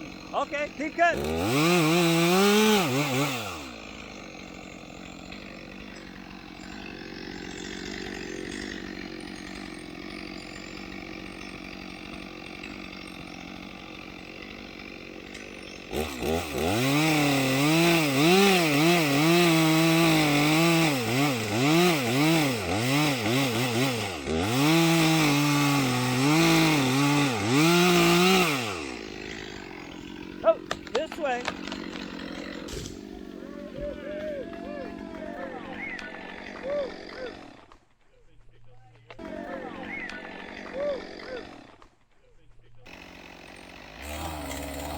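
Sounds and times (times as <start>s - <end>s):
chainsaw cutting into tree: 0.0s - 38.0s, 39.1s - 42.2s, 42.8s - 44.9s.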